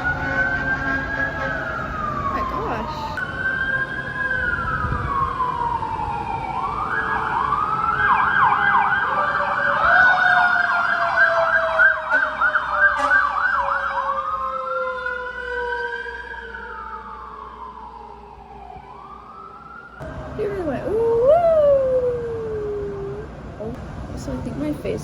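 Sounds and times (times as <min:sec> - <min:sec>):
emergency siren wailing and yelping: 0:00.0 - 0:23.7
lower siren tone sliding down: 0:01.7 - 0:23.4.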